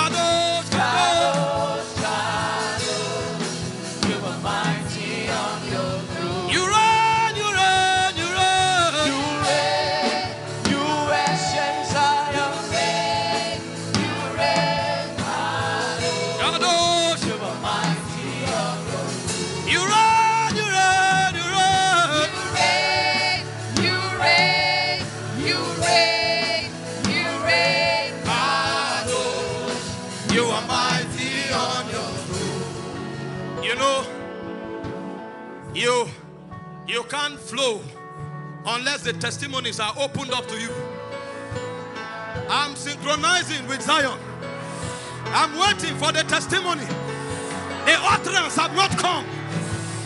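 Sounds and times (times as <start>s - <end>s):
voices singing gospel: 0.0s - 34.7s, 41.9s - 50.0s
instrumental accompaniment: 0.0s - 50.0s.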